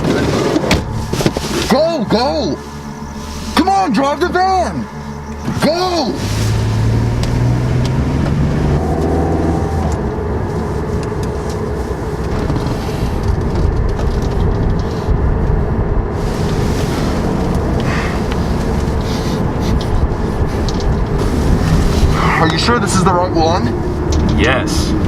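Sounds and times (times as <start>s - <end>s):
road noise: 0.0s - 25.0s
van engine running: 0.0s - 25.0s.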